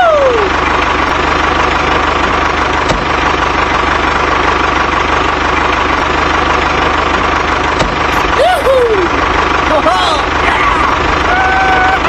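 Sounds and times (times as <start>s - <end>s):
tractor engine chugging: 0.0s - 12.0s.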